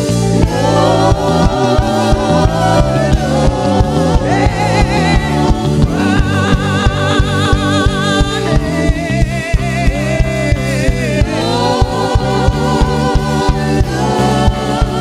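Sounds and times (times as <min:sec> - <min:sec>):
band with bass and drums: 0:00.0 - 0:15.0.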